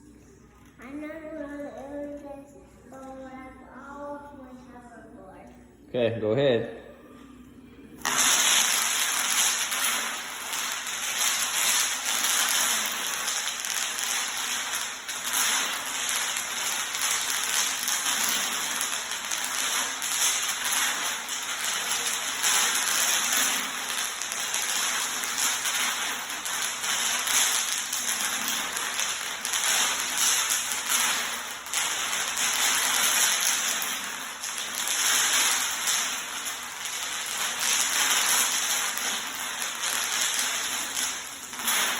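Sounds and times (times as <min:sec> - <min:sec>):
bubble wrap popping: 0:08.0 - 0:41.9.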